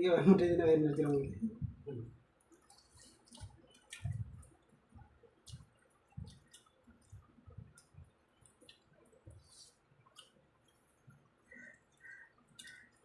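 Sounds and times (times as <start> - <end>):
wet chewing and mouth smacks: 2.4 - 13.0.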